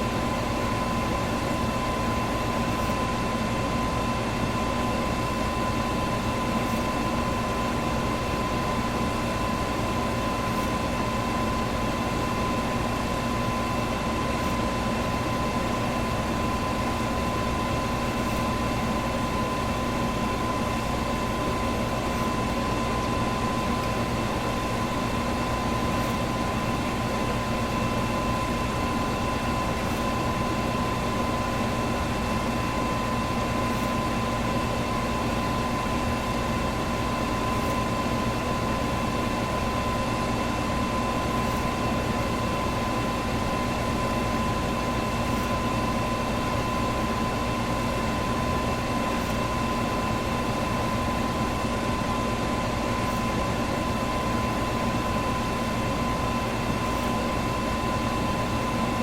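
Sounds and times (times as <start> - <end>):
fan motor hum: 0.0 - 59.0.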